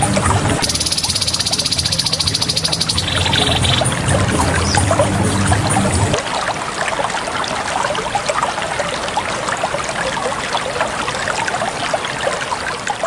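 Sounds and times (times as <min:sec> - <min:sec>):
water trickling and babbling: 0:00.0 - 0:13.0.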